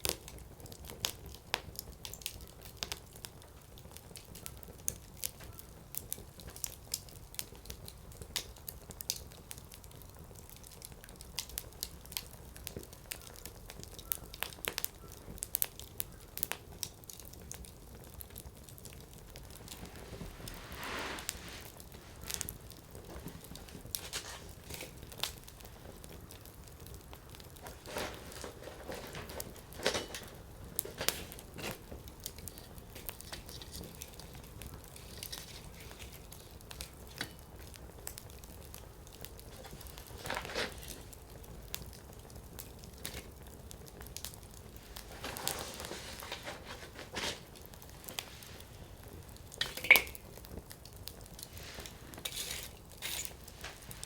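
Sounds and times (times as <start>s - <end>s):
firewood crackling: 0.0s - 54.0s
sharp pops of burning wood: 0.0s - 54.0s.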